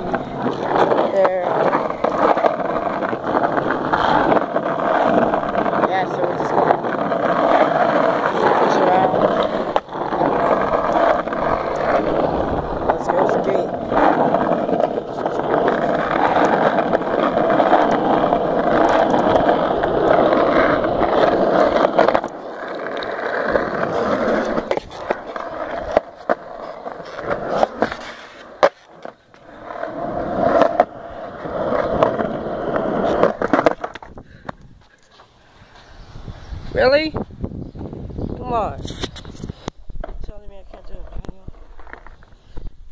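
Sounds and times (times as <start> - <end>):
skateboard clacks: 0.0 - 35.3
skateboard wheels rolling: 0.0 - 42.9.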